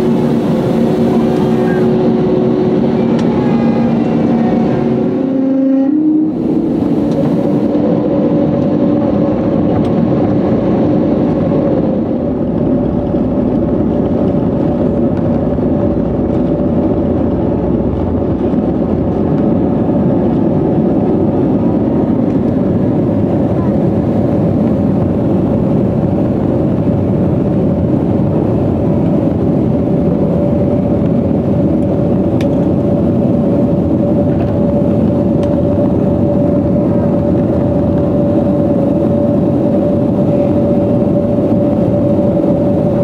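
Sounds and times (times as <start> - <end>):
heavy rumble of takeoff roll: 0.0 - 43.0
jet engines spooling up: 0.0 - 43.0.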